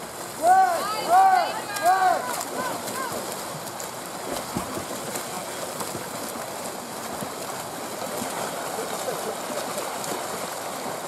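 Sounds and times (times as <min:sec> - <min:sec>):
swimmers splashing: 0:00.0 - 0:11.0.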